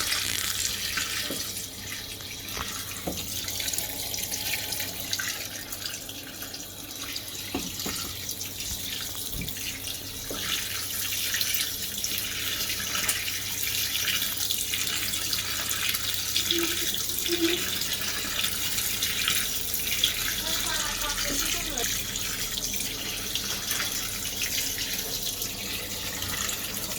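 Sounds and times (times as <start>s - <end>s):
washing machine filling with water: 0.0s - 26.9s.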